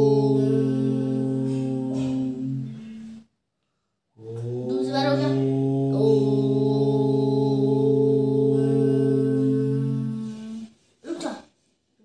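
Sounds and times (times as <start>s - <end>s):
man and boy chanting om: 0.0s - 3.3s, 4.2s - 11.4s.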